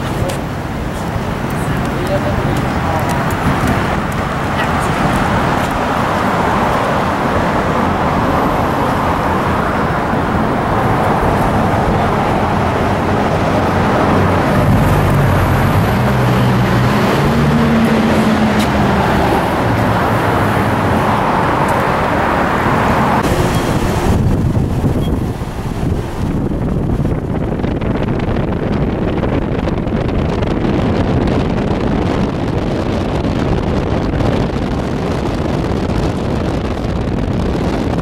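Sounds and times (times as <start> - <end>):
heavy vehicle engine hum: 0.0 - 38.0
road traffic noise: 0.0 - 38.0.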